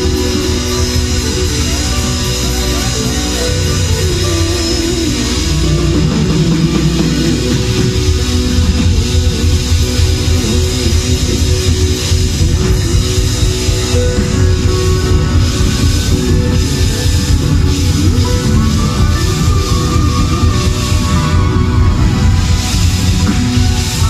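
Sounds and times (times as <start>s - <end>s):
rock music with guitar: 0.0s - 24.0s.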